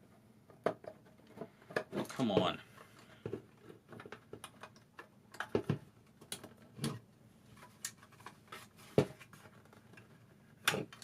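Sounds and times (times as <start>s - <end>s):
plastic parts clicking and knocking: 0.1s - 11.0s.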